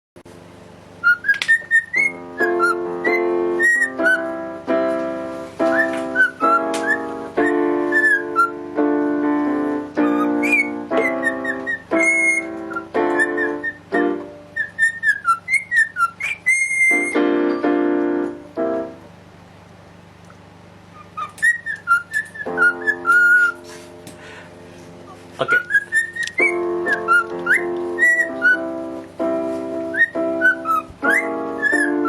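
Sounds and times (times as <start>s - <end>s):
piano music: 0.2s - 32.0s
birds whistling: 1.0s - 4.5s, 5.6s - 17.3s, 20.8s - 24.4s, 25.1s - 32.0s.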